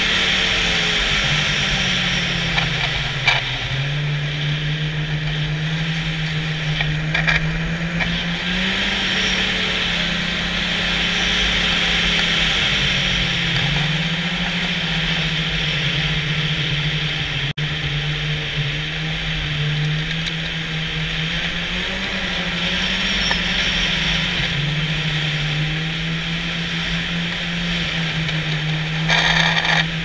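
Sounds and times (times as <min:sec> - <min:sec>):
snowmobile engine running: 0:00.0 - 0:30.0.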